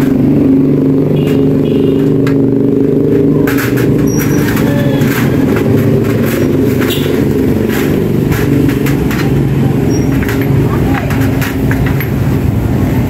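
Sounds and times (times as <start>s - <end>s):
engine running steadily: 0.0s - 13.0s
hand tools clicking on metal: 1.1s - 12.5s.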